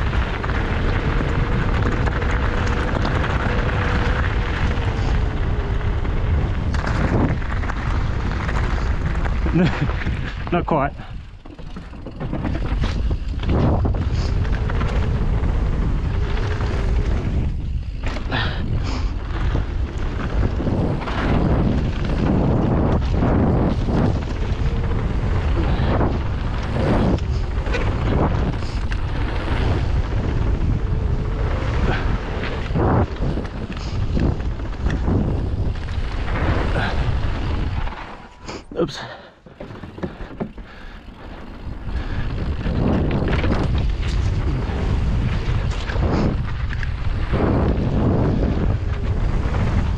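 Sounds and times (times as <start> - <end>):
bike clicks and rattles: 0.0 - 49.9
tyres rumbling on dirt and stones: 0.0 - 49.9
wind rushing over microphone: 0.0 - 49.9.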